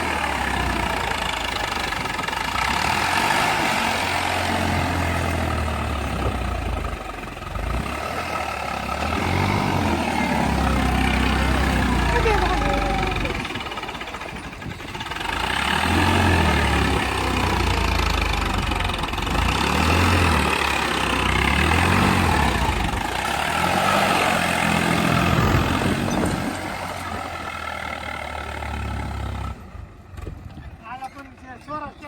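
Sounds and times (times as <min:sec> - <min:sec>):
tractor engine revving: 0:00.0 - 0:31.6.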